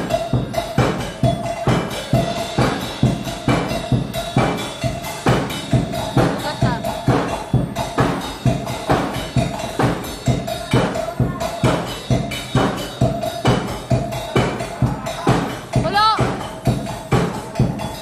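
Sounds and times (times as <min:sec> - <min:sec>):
music with fast drum beat: 0:00.0 - 0:18.0.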